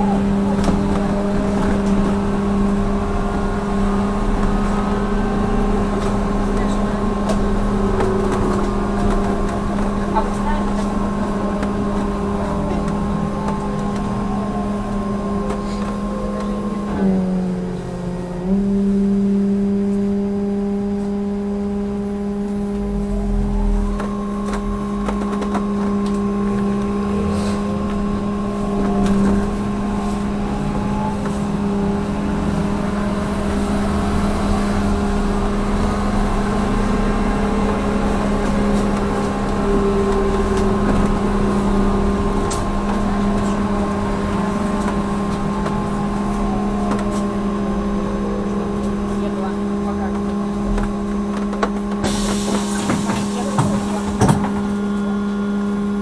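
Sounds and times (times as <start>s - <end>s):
electrical hum and motor whine: 0.0s - 56.0s
road rumble: 0.0s - 56.0s.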